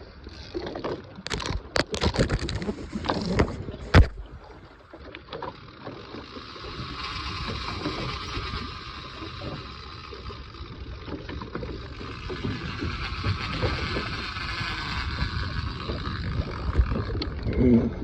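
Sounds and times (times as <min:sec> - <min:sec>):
fishing reel drag buzzing: 0:00.1 - 0:18.0.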